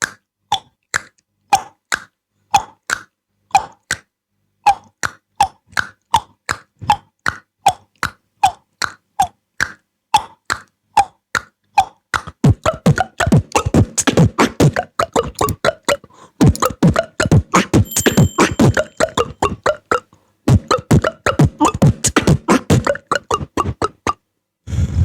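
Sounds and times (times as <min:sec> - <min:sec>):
beatboxed mouth clicks: 0:00.0 - 0:24.2
beatbox rhythm with kick drum: 0:00.1 - 0:04.1, 0:04.7 - 0:24.2.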